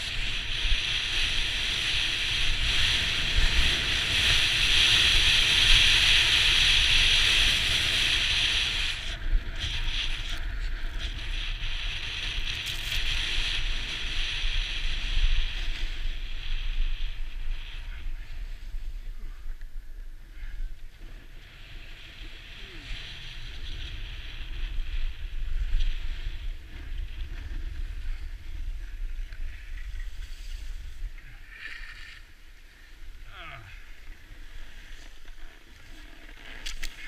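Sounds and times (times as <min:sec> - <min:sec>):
snowboard scraping on snow: 0:00.0 - 0:19.2, 0:20.8 - 0:33.2, 0:33.9 - 0:37.0
wind rumble on microphone: 0:00.0 - 0:37.0.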